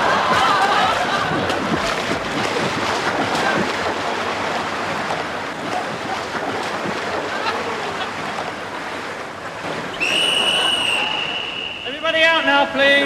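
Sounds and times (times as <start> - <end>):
water splashing from swimming: 0.0 - 13.0.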